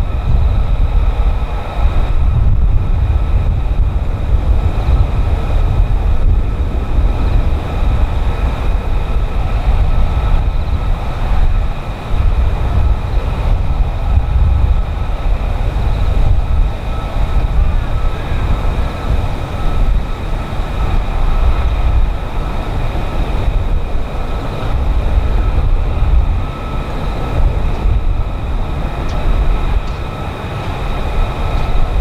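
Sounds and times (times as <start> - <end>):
jet engine running: 0.0 - 32.0.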